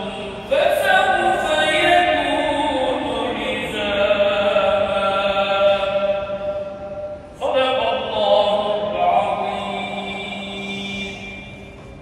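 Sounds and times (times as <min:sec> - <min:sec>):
person chanting melodic recitation: 0:00.0 - 0:11.8.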